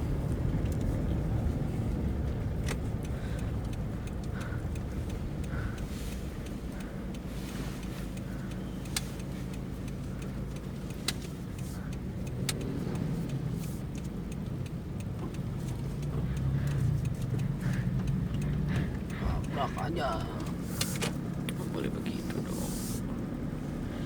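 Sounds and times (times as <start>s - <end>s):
diesel engine drone: 0.0s - 24.0s
sharp clicks: 0.3s - 22.5s.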